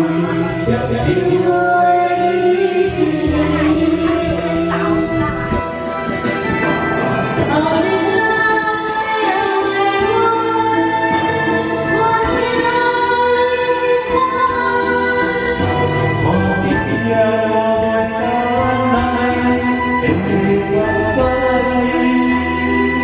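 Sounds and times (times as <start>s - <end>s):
woman singing into microphone: 0.0s - 6.7s, 7.3s - 23.0s
backing track music: 0.0s - 23.0s.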